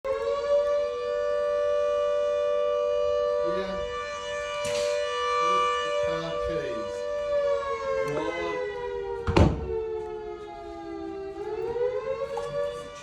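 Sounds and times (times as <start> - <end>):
fire siren steady high tone: 0.0 - 13.0.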